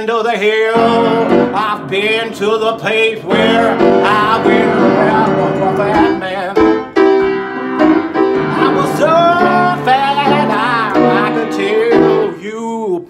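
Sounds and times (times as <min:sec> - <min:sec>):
man singing wordless line: 0:00.0 - 0:06.9, 0:08.3 - 0:13.0
upright piano chords: 0:00.4 - 0:12.5.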